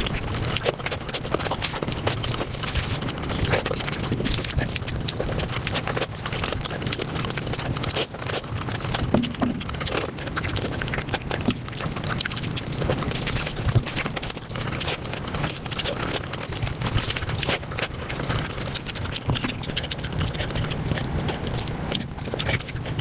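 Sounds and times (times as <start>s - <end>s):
sped-up chewing clicks: 0.0s - 23.0s.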